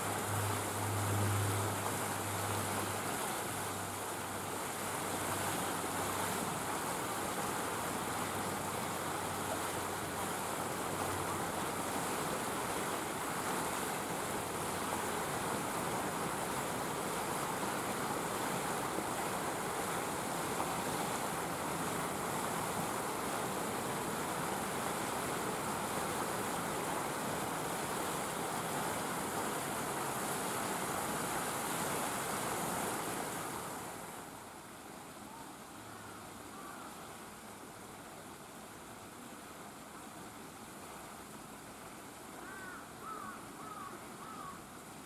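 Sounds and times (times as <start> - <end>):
steady outdoor hiss: 0.0 - 45.0.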